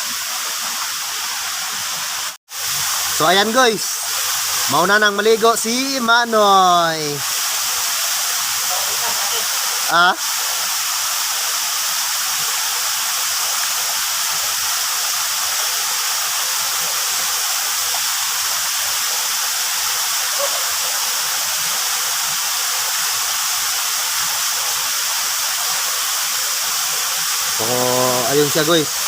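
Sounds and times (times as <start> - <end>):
waterfall pouring into a pool: 0.0 - 29.0.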